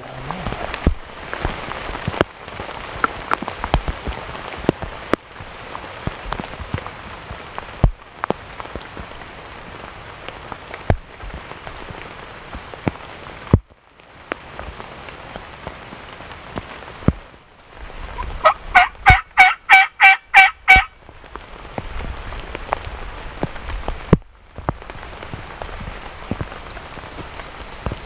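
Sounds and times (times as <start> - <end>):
heavy rain hiss: 0.0 - 28.0
raindrops tapping near microphone: 0.0 - 28.0.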